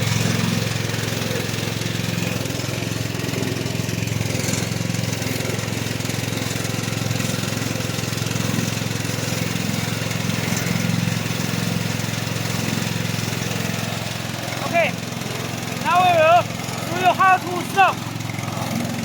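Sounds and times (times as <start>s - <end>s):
small lawn mower engine running: 0.0s - 19.0s.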